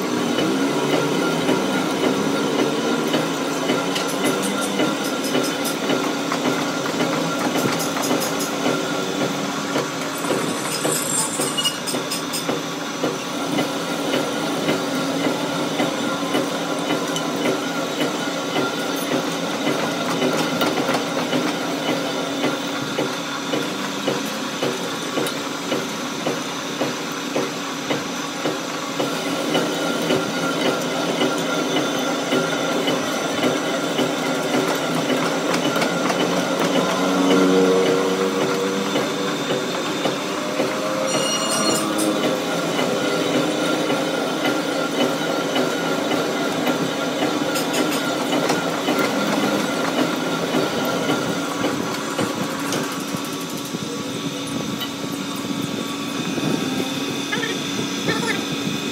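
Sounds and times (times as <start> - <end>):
metal lathe droning: 0.0 - 58.9.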